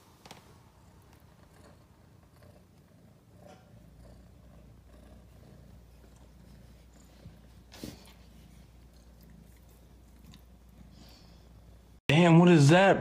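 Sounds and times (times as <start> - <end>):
cat purring: 0.4 - 12.0.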